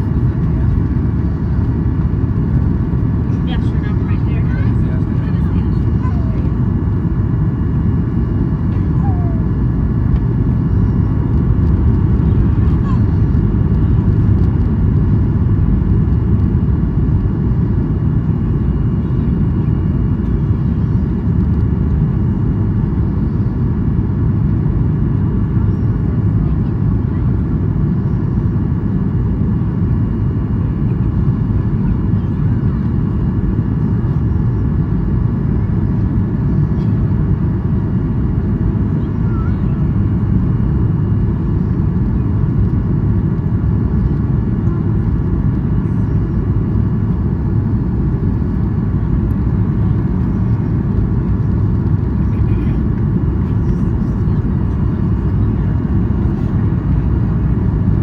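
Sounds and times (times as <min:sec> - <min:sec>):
airliner cabin engine rumble: 0:00.0 - 0:58.0
faint steady whines: 0:00.0 - 0:58.0.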